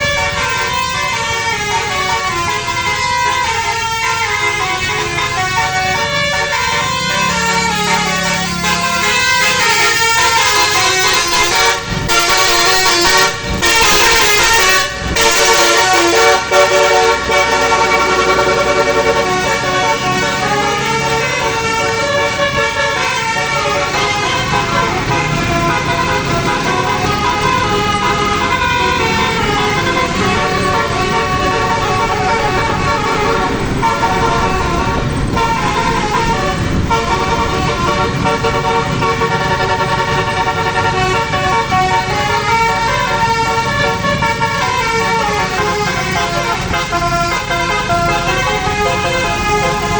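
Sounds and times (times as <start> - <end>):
multi-trumpet bus horn melody: 0.0 - 49.9.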